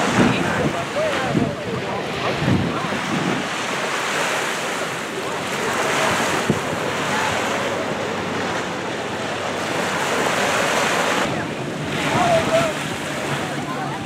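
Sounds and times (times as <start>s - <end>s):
sea waves washing on beach: 0.0s - 14.0s
wind buffeting microphone: 0.0s - 14.0s.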